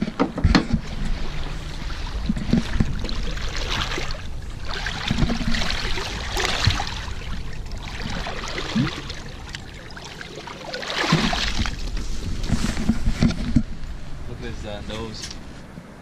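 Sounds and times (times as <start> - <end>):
water splashing: 0.7 - 15.1.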